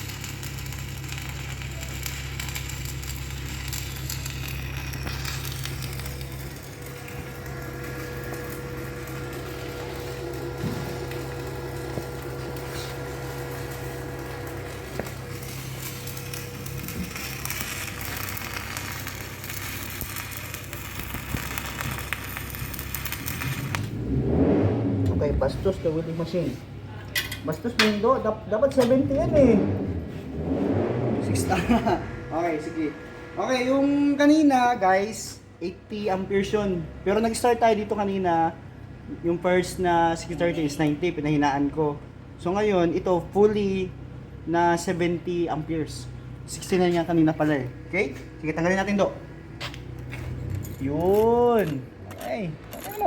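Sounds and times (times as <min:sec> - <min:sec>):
welding arc crackling: 0:00.0 - 0:26.6, 0:27.4 - 0:38.6, 0:42.4 - 0:53.0
low hum: 0:00.2 - 0:53.0.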